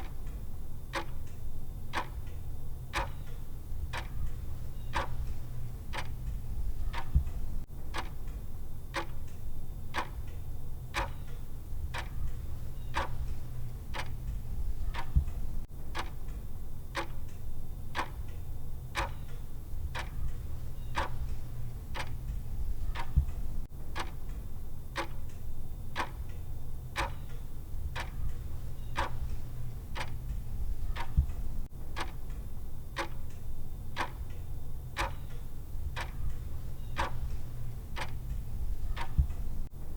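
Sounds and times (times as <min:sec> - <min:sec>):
timer ticking: 0:00.0 - 0:18.4, 0:19.0 - 0:39.7
steady low hum: 0:00.0 - 0:39.9.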